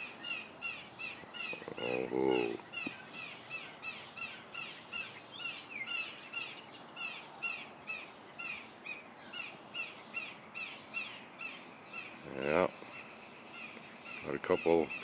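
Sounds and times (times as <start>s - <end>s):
blue jays scolding: 0.0s - 15.0s.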